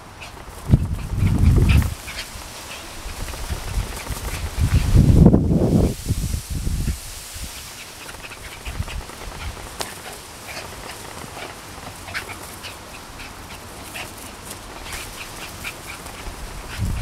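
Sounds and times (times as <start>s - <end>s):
small dogs yipping: 0.2s - 4.9s, 7.8s - 17.0s.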